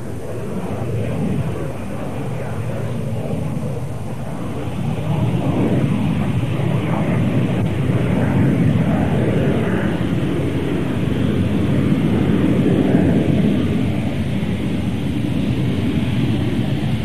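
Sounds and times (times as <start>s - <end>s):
loud steady jet rush: 0.0s - 17.0s.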